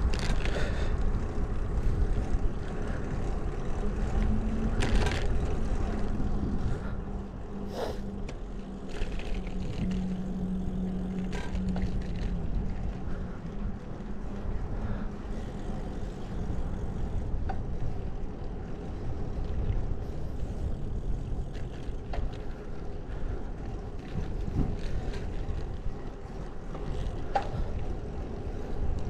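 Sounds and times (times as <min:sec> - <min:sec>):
bicycle tyres on asphalt: 0:00.0 - 0:29.0
steady low hum: 0:00.0 - 0:29.0
wind rumbling on microphone: 0:00.0 - 0:29.0.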